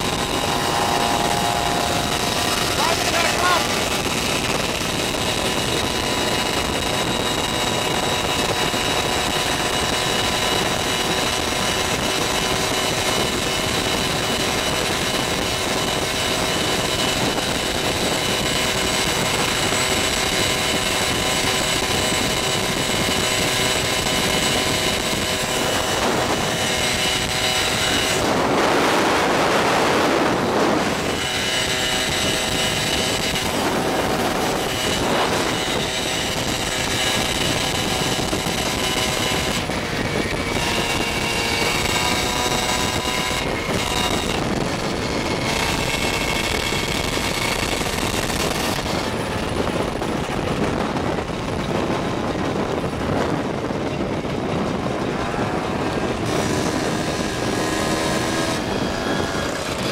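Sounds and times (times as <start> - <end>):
loud rush of noise: 0.0 - 13.2, 15.8 - 59.9
moped engine running: 0.0 - 59.9
wind and road noise: 0.0 - 59.9.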